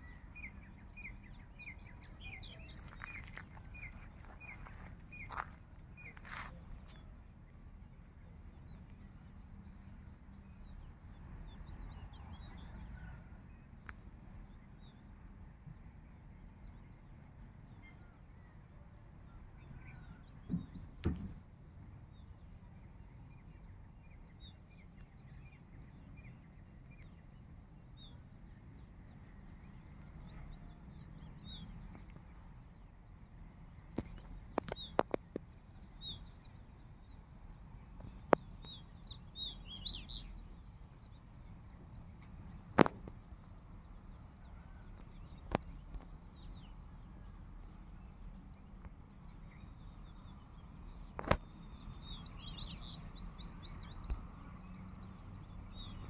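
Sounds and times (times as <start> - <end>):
low outdoor rumble: 0.0 - 56.0
small birds chirping and trilling: 0.0 - 56.0.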